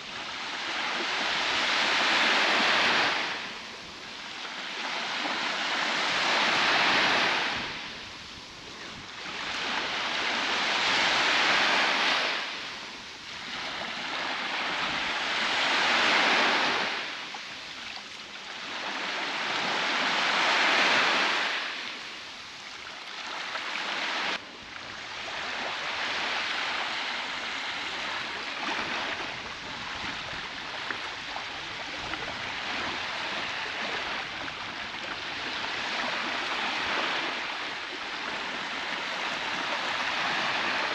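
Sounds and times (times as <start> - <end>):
even wash of surf: 0.0 - 40.9
waves washing onto a beach: 0.0 - 40.9.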